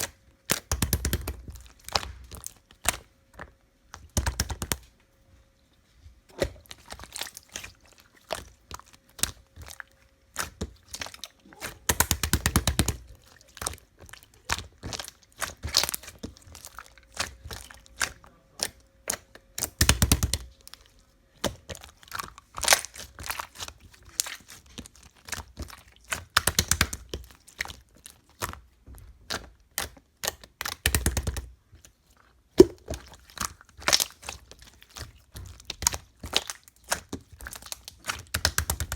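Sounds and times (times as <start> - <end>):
slime crackling and popping: 0.0 - 3.1, 3.9 - 4.9, 6.3 - 20.8, 21.4 - 31.9, 32.5 - 38.9.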